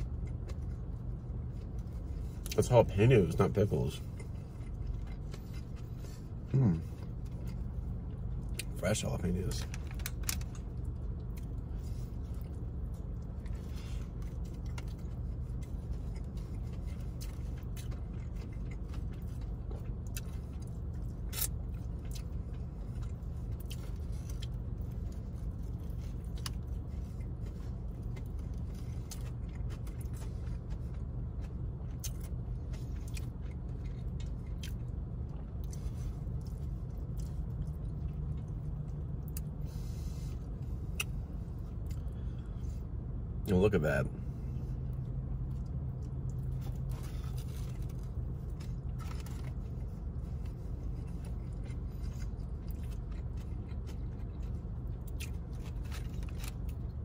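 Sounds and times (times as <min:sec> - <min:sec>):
chewing a sandwich: 0:00.0 - 0:43.5, 0:44.2 - 0:57.0
car idling hum: 0:00.0 - 0:57.0.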